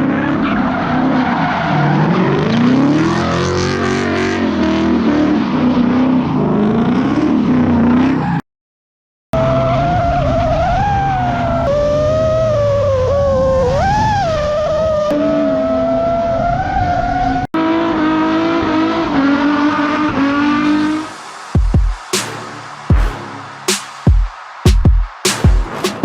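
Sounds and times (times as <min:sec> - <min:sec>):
race car engines: 0:00.0 - 0:08.4, 0:09.4 - 0:25.9.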